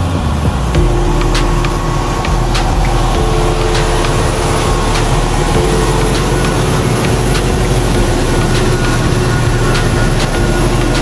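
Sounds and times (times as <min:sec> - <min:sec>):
truck engine rumbling under load: 0:00.0 - 0:11.0.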